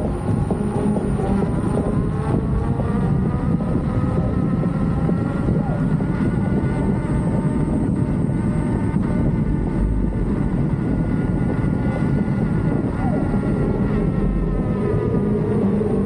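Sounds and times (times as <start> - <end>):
faint motor whine: 0.0 - 16.0
road rush: 0.0 - 16.0
wind buffeting microphone: 0.0 - 16.0.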